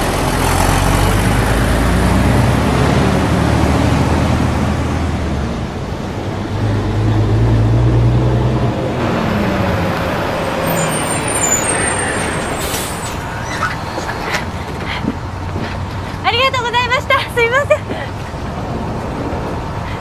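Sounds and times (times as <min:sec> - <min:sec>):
bus engine droning: 0:00.0 - 0:20.0
road and tyre noise: 0:00.0 - 0:20.0.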